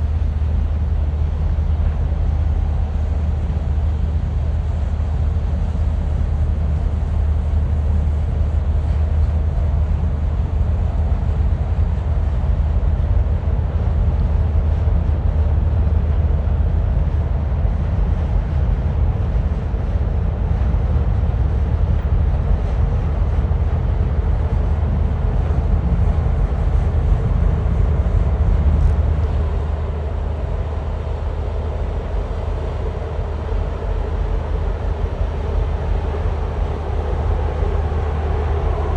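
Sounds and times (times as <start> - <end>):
ship engine rumble: 0.0 - 38.9.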